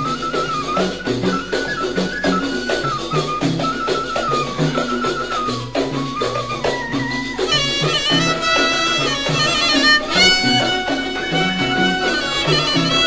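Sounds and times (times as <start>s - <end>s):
winding melody: 0.0s - 13.0s.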